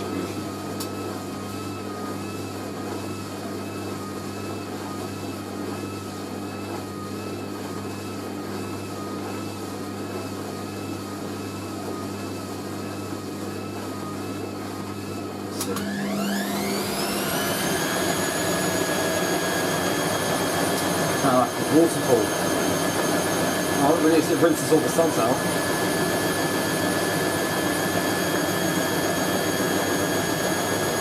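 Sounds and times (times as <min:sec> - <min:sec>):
washing machine motor whine: 0:00.0 - 0:31.0.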